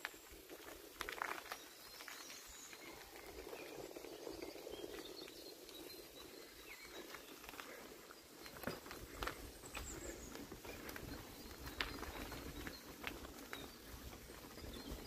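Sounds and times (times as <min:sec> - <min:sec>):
quiet woodland ambience: 0:00.0 - 0:15.0
rustling in dry leaves: 0:00.0 - 0:15.0.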